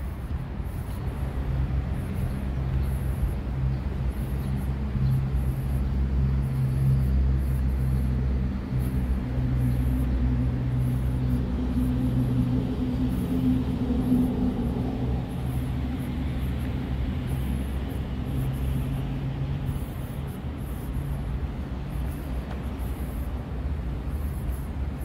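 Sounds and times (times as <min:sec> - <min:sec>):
road vehicle hum and rumble: 0:00.0 - 0:25.0.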